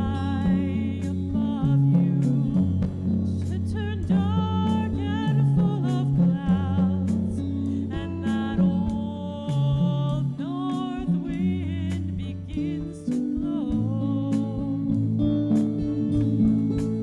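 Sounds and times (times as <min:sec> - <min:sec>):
woman singing with vibrato: 0:00.0 - 0:16.2
bass line: 0:00.0 - 0:17.0
drum kit: 0:00.0 - 0:17.0
electric guitar: 0:00.0 - 0:17.0.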